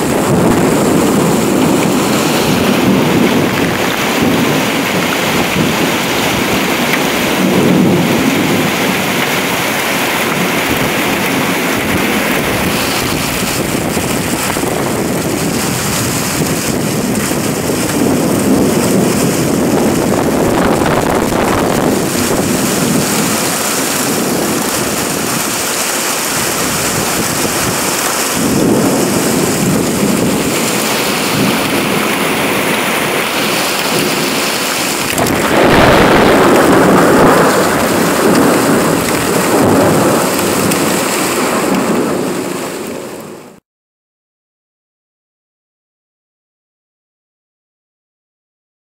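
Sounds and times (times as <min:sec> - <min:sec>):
heavy rain pouring: 0:00.0 - 0:43.6
thunder rumbling: 0:00.0 - 0:43.6.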